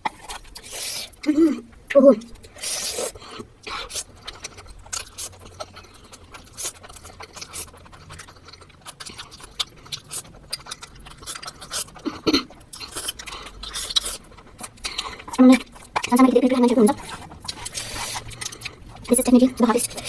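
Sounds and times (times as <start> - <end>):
chewing and mouth noises: 0.0 - 20.0.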